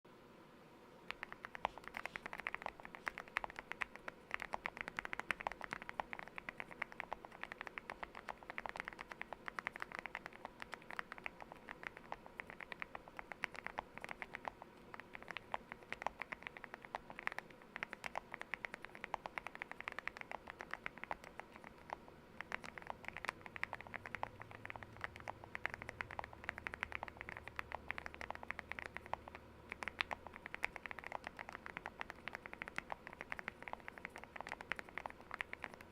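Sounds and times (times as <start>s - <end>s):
mechanical keyboard typing: 1.1s - 35.9s.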